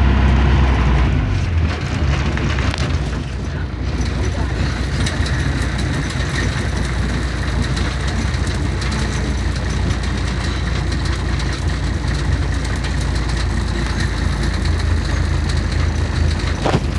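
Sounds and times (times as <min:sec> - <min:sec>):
bus diesel engine drone: 0:00.0 - 0:16.9
cabin noise: 0:01.5 - 0:16.9
fittings rattling: 0:02.1 - 0:16.9.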